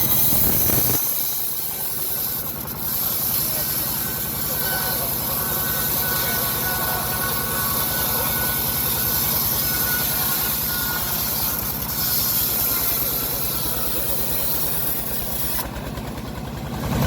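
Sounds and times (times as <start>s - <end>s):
sawmill engine pulsing: 0.0s - 17.0s.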